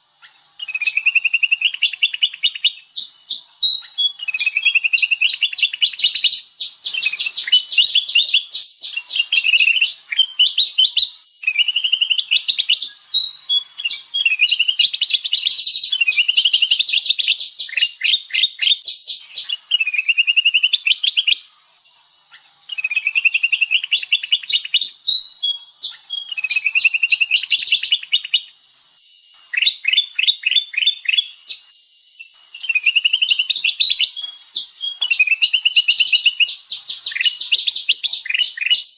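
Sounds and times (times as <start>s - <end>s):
bird chirping calls: 0.0s - 38.9s.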